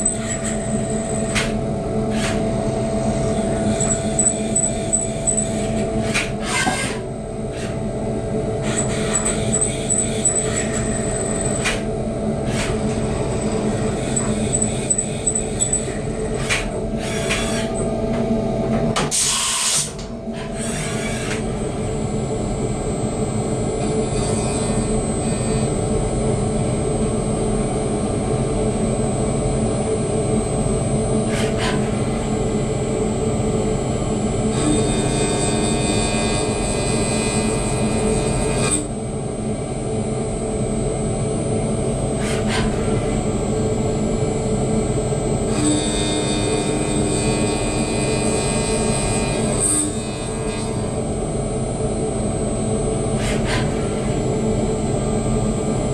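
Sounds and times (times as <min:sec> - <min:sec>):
milling machine humming and whining: 0:00.0 - 0:55.9.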